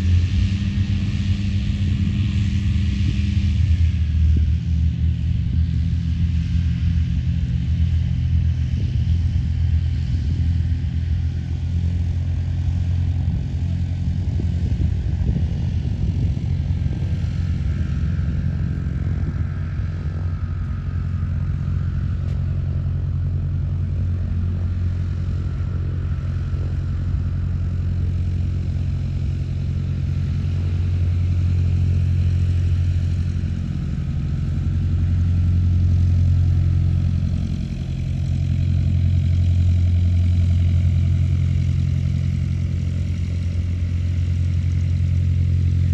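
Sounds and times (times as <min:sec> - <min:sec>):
engine droning: 0:00.0 - 0:45.9.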